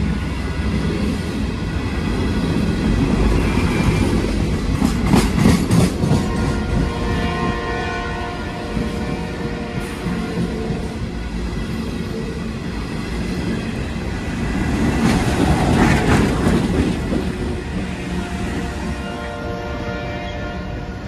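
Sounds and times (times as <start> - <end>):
diesel locomotives passing: 0.0 - 21.0.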